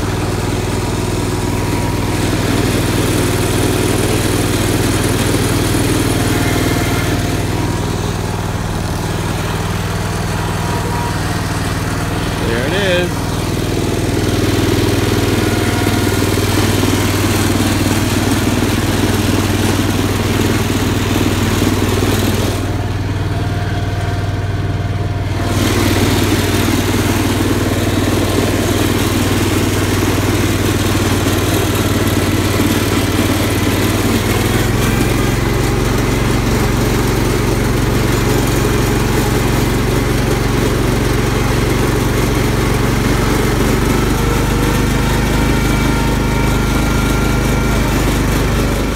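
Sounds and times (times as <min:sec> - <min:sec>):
garden tractor engine running: 0:00.0 - 0:48.9.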